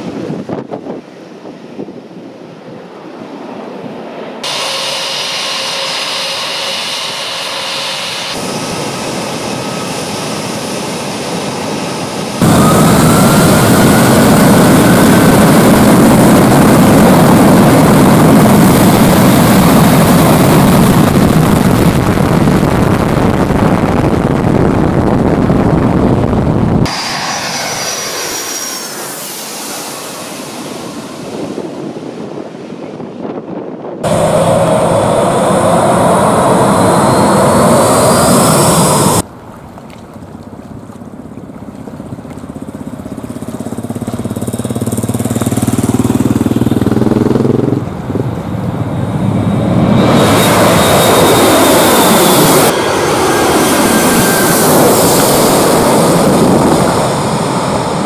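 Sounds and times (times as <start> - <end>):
jet blast roar: 0.0 - 39.3, 42.8 - 58.0
jet engine turbine whine: 0.0 - 39.3, 42.0 - 58.0.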